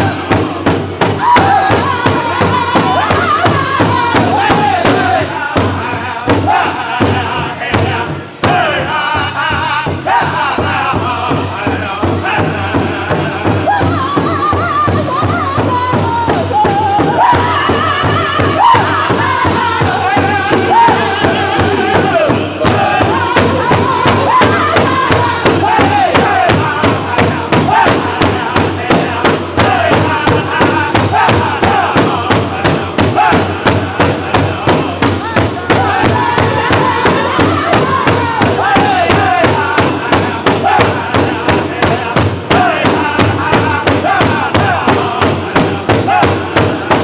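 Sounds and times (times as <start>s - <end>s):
group singing in high wavering voices: 0.0s - 47.0s
large hide drum beating: 0.0s - 47.0s.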